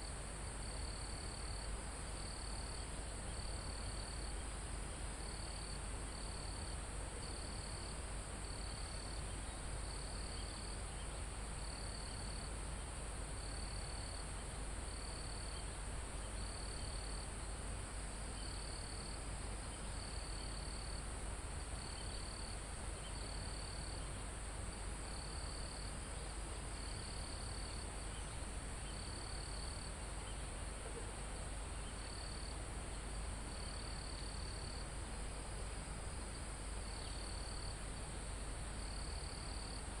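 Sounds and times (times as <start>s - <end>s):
cricket trilling in bursts: 0.0s - 4.5s, 5.1s - 24.4s, 25.0s - 40.0s
high-pitched insect chorus: 0.0s - 4.5s, 5.2s - 17.6s, 18.2s - 24.3s, 25.0s - 40.0s.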